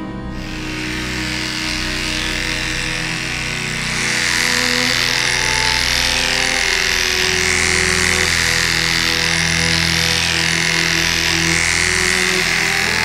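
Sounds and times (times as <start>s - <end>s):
dog clipper motor hum: 0.3s - 13.0s
clipper blade shaving fur: 0.4s - 13.0s.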